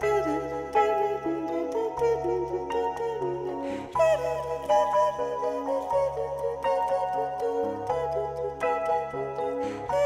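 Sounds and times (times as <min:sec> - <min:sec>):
keyboard chords and notes: 0:00.0 - 0:10.0
woman singing: 0:00.0 - 0:10.0.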